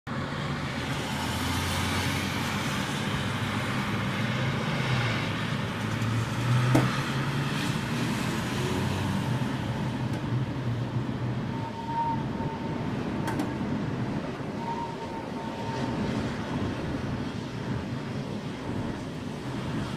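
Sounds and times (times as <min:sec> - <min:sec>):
wind rushing and gusting: 0:00.2 - 0:19.9.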